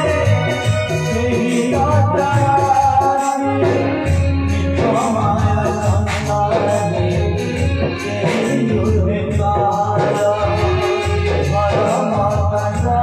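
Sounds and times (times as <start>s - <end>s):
low drum beat: 0.0s - 13.0s
person singing: 0.0s - 13.0s.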